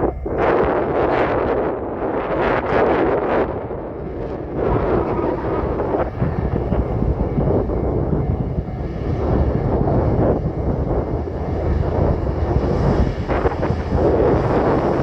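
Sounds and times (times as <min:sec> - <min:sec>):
diesel railcar rumbling: 0:00.0 - 0:15.0.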